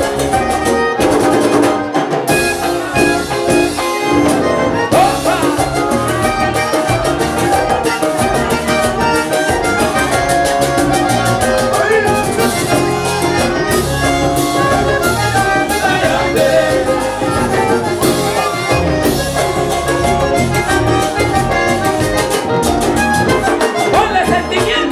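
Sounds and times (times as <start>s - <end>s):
button accordion: 0.0s - 24.9s
percussion beat: 0.0s - 24.9s.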